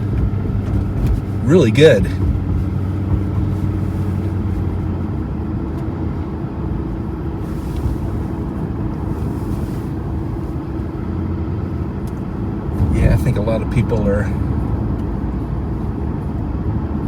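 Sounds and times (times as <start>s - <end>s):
car engine hum: 0.0s - 17.0s
tyre noise on road: 0.0s - 17.0s.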